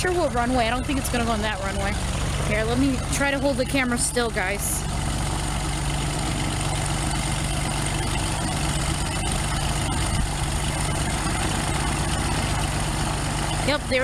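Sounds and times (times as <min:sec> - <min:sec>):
piston engine idling: 0:00.0 - 0:14.0.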